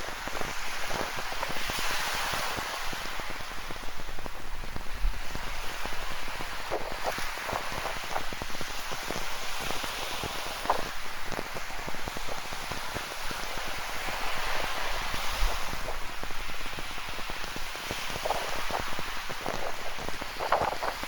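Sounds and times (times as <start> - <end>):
ocean surf hiss: 0.0 - 21.0.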